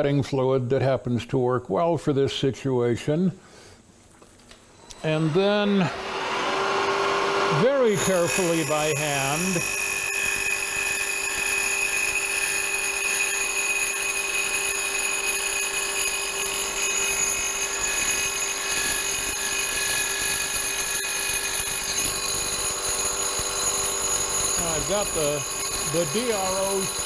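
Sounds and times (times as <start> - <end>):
milling saw whine cutting metal: 4.6 - 27.0.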